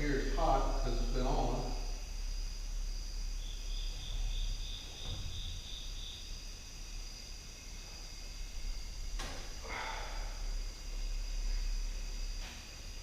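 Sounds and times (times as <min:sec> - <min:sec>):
crickets chirping: 0:00.0 - 0:13.0
high-pitched insect trilling: 0:00.0 - 0:13.0
low electrical hum: 0:00.0 - 0:13.0.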